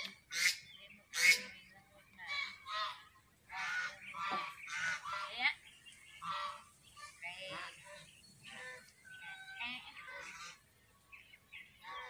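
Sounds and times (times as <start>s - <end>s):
birds honking: 0.0s - 12.0s.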